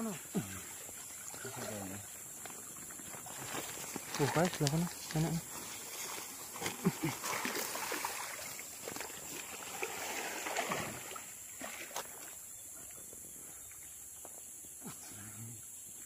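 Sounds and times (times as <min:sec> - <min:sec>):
creek water splashing: 0:00.0 - 0:14.5
faint steady hiss: 0:00.0 - 0:16.0.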